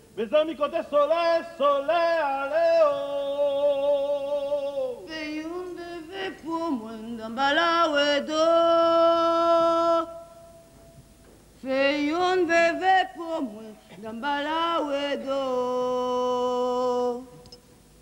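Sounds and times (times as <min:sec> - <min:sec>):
person singing unaccompanied: 0:00.2 - 0:10.7, 0:11.6 - 0:17.6.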